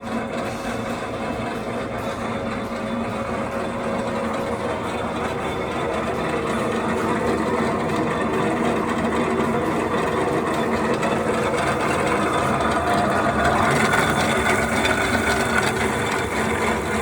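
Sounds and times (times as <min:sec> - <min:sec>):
pillar drill motor humming: 0:00.0 - 0:17.0.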